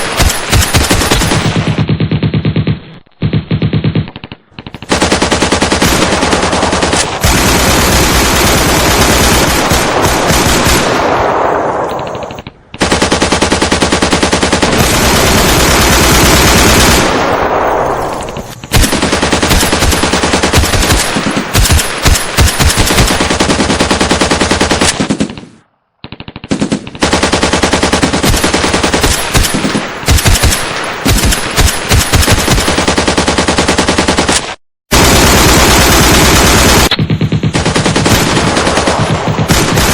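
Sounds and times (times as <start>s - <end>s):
machine-gun fire bursts: 0.0s - 12.2s, 12.8s - 39.9s.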